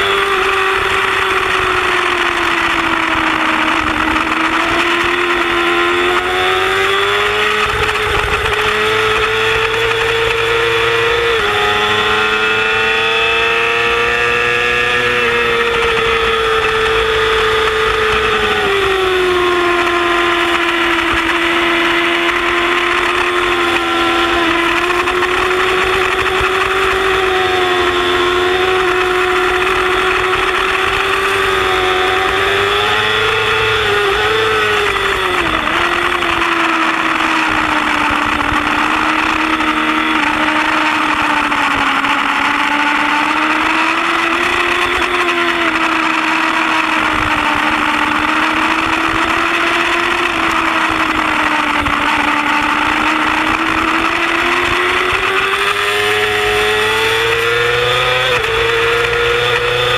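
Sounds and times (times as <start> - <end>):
motorcycle engine at high revs: 0.0 - 59.9
wind rushing over microphone: 0.0 - 59.9.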